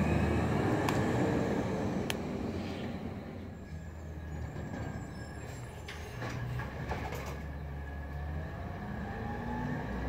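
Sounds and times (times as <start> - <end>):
garbage truck diesel engine: 0.0 - 10.0.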